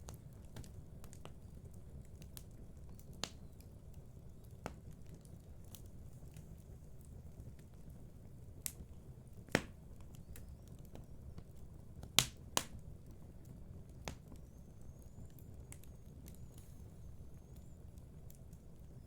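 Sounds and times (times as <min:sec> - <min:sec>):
fire ticking and popping: 0:00.0 - 0:19.0
low rumble of flames: 0:00.0 - 0:19.0.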